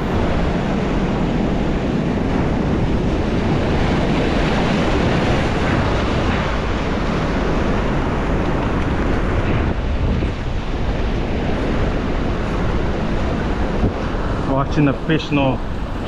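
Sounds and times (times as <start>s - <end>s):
ocean surf washing ashore: 0.0s - 16.0s
wind buffeting microphone: 0.0s - 16.0s.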